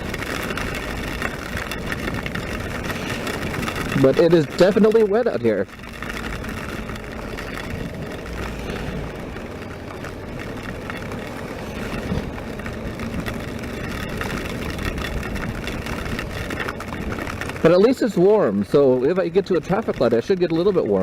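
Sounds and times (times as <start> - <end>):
motorcycle engine in rain: 0.0 - 21.0.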